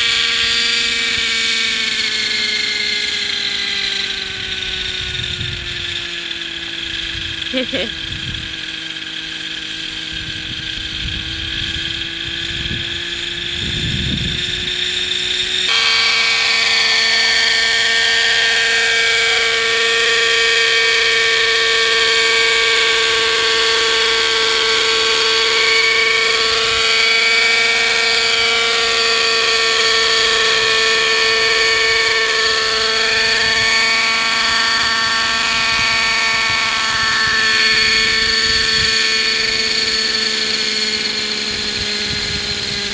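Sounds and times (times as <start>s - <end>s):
model helicopter engine and rotors: 0.0s - 42.9s.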